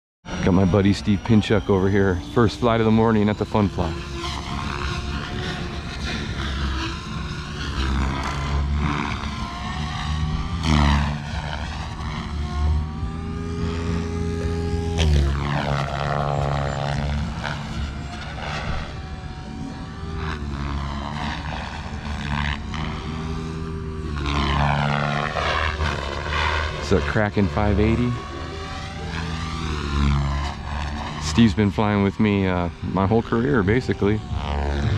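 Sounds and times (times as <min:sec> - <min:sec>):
rc helicopter motor and rotor whine: 0:00.3 - 0:34.9.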